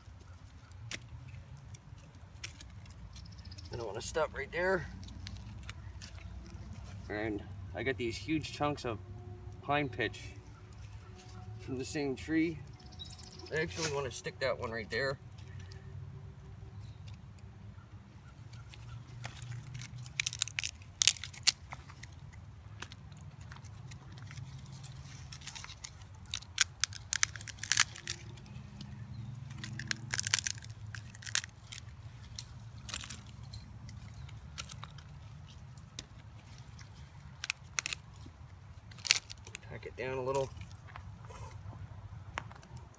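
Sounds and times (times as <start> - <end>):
bark crunching and crackling: 0.0 - 15.9, 16.6 - 42.9.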